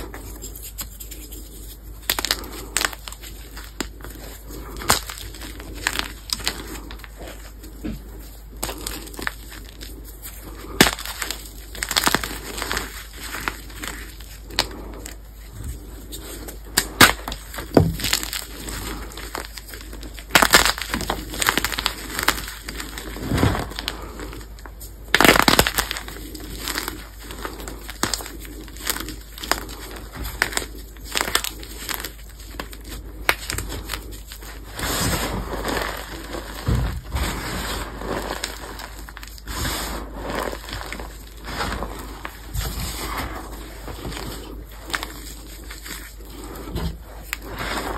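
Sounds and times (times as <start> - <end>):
chalk crunching by hand: 0.0 - 47.9
powdery rustle of crumbs: 0.0 - 47.9.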